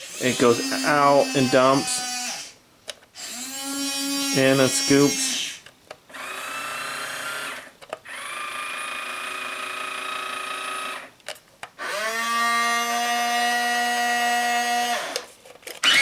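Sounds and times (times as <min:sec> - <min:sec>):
small electric motor whining: 0:00.0 - 0:02.6, 0:03.2 - 0:11.1, 0:11.8 - 0:16.0.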